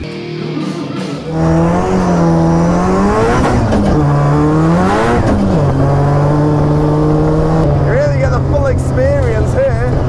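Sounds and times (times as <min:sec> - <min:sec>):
car engine revving: 0:01.2 - 0:10.0.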